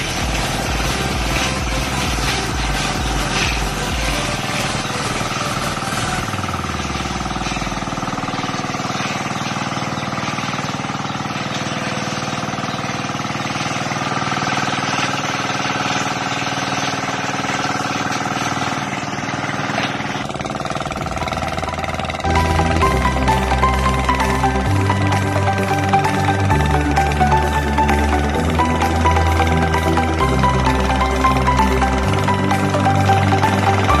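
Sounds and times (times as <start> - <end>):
water pump engine running: 0.0 - 34.0
water spraying from hose: 0.0 - 34.0.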